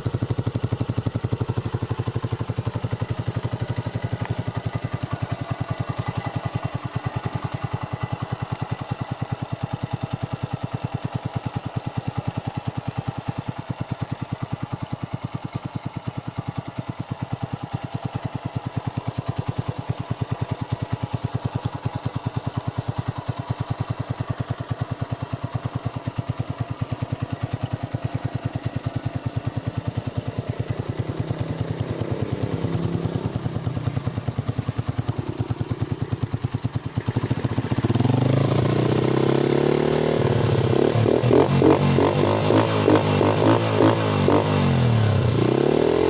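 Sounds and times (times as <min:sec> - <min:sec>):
motorcycle engine idling and revving: 0:00.0 - 0:46.0.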